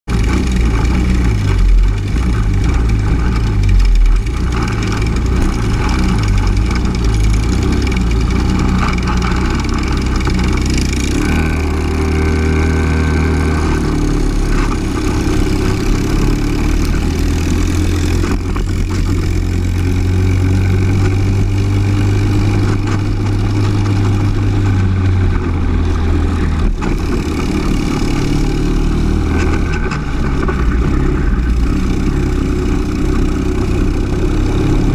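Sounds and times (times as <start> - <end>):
other kart engines: 0.0 - 34.9
kart engine running: 0.1 - 34.9.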